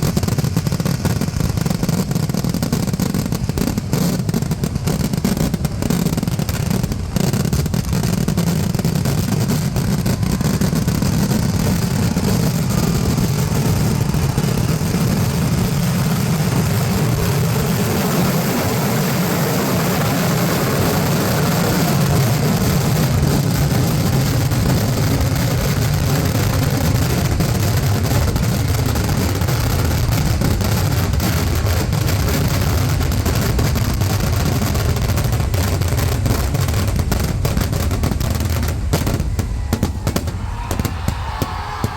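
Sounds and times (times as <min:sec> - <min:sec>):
firecrackers exploding: 0:00.0 - 0:41.9.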